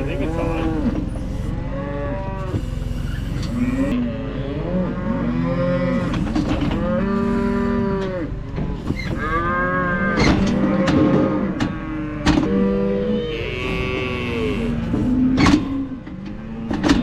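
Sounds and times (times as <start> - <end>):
cattle mooing: 0.0 - 17.0.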